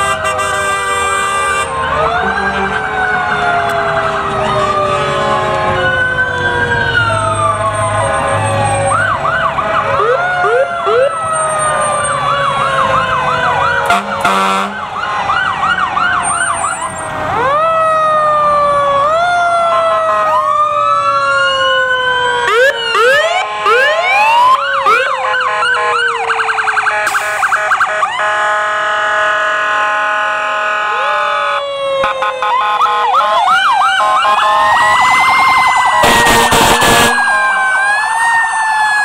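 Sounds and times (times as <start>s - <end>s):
electronic siren yelps and wails: 0.0s - 39.0s.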